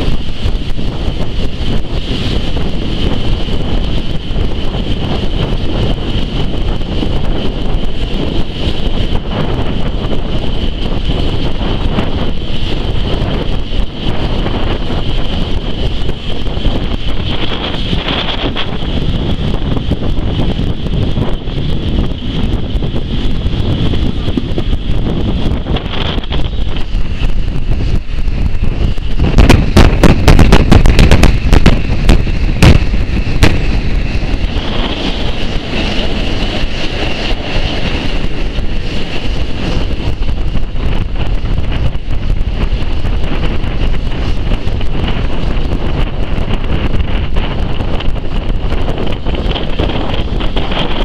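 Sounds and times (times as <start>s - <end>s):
train running on track: 0.0s - 51.0s
wind buffeting microphone: 0.0s - 51.0s.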